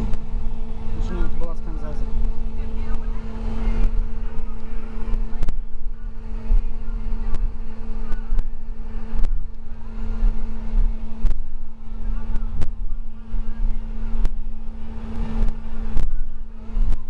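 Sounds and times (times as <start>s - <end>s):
bus engine droning: 0.0s - 17.0s
road rumble: 0.0s - 17.0s.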